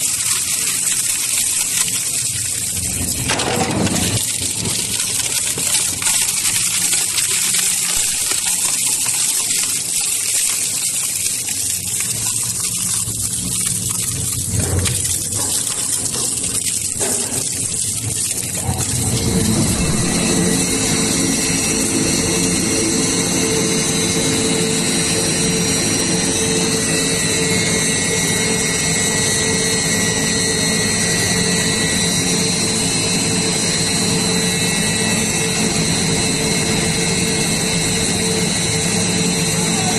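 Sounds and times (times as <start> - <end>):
shredder machine running: 0.0 - 10.5, 13.1 - 39.9.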